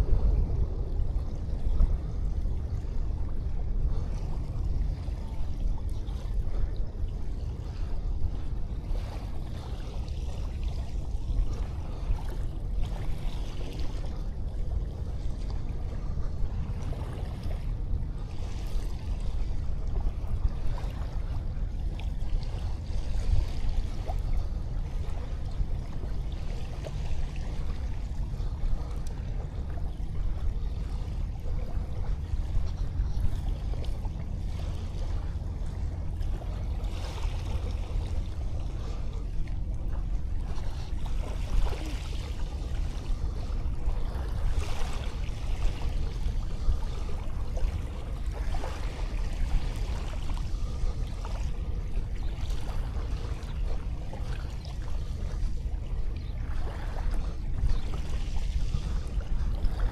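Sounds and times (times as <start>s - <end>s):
small waves washing on shore: 0.0s - 59.9s
steady low rumble: 0.0s - 59.9s.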